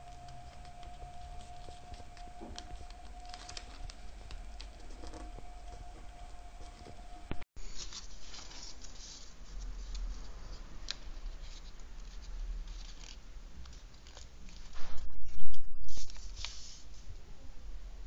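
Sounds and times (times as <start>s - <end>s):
paper rustling and crinkling: 0.0s - 14.9s, 15.9s - 17.1s.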